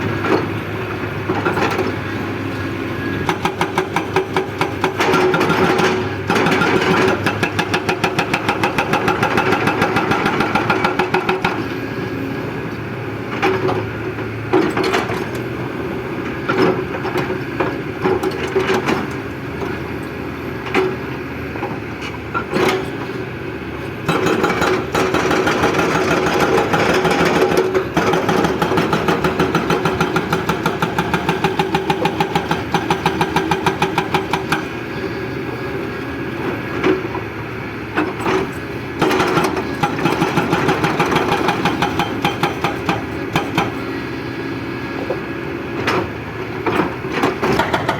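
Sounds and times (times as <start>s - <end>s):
excavator clanks: 0.0s - 12.0s, 12.7s - 23.2s, 23.8s - 37.3s, 37.9s - 47.9s
excavator diesel engine pounding: 0.0s - 47.9s.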